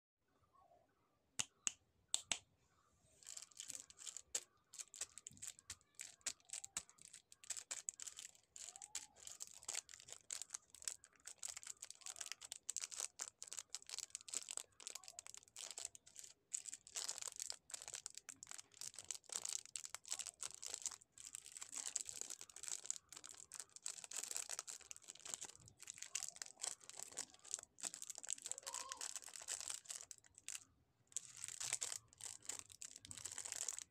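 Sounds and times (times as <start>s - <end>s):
cellophane wrappers crinkling: 3.2s - 33.9s.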